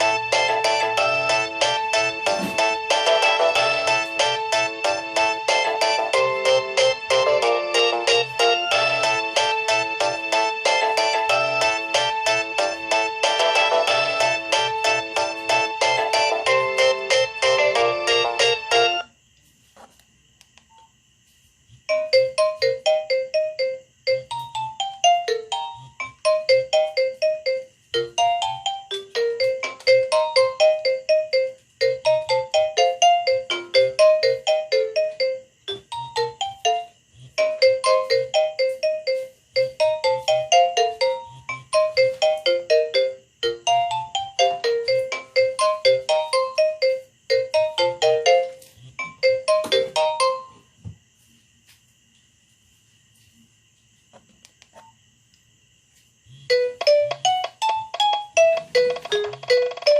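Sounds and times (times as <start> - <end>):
mobile phone ringtone: 0.0 - 19.1, 21.9 - 50.6, 56.5 - 59.9.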